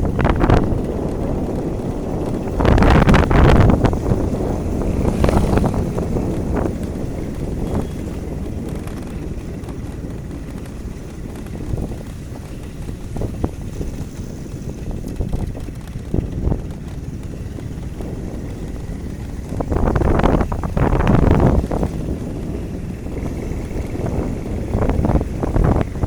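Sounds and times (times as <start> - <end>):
traffic and road noise: 0.0 - 26.0
wind buffeting microphone: 0.0 - 26.0.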